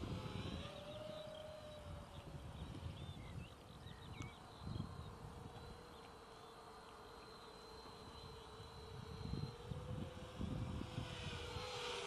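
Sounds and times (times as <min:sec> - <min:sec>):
wind rumbling on microphone: 0:00.0 - 0:06.3, 0:07.7 - 0:12.0
quadcopter propellers buzzing: 0:00.0 - 0:12.0.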